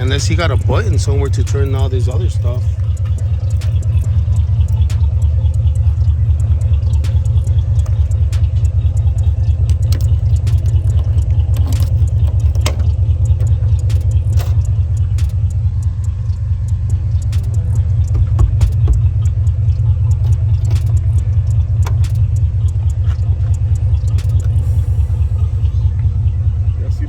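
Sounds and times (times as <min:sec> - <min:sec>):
light clicks: 0:00.0 - 0:24.8
car engine idling: 0:00.0 - 0:27.0.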